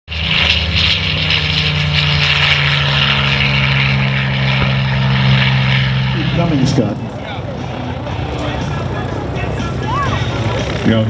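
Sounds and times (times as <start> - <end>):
propeller airplane engines droning: 0.1 - 11.0.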